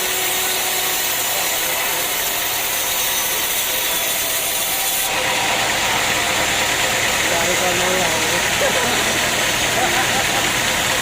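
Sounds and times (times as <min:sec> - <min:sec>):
sawmill machinery rattling: 0:00.0 - 0:11.0
engine running: 0:01.2 - 0:11.0.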